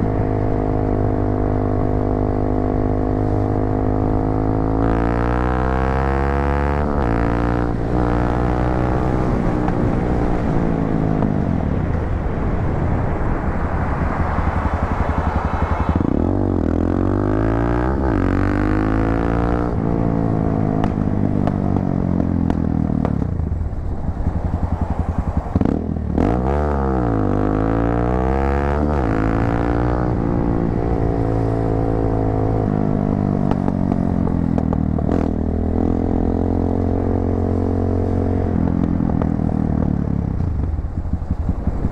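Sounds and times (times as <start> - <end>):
motorcycle engine revving: 0.0 - 11.8, 14.1 - 41.9.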